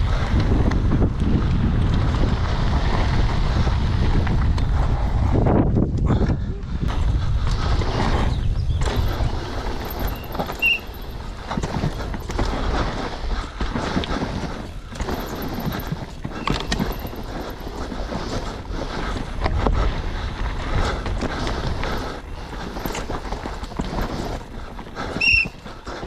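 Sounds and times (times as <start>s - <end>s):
tyres crunching and skidding on dirt: 0.0s - 5.6s, 6.8s - 26.0s
bike rattling over bumps: 0.0s - 26.0s
wind rumbling on microphone: 0.0s - 26.0s.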